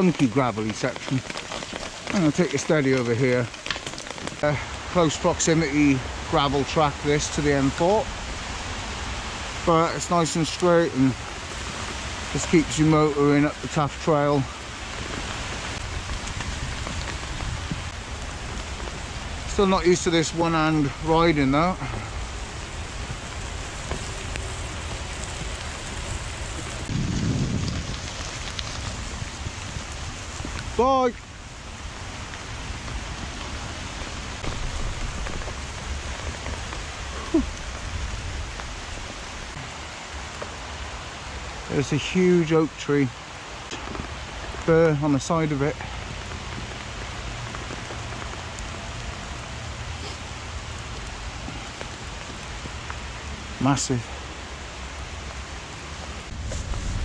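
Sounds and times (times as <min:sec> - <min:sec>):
bike rolling on wet gravel: 0:00.0 - 0:57.0
heavy rain hissing: 0:00.0 - 0:57.0.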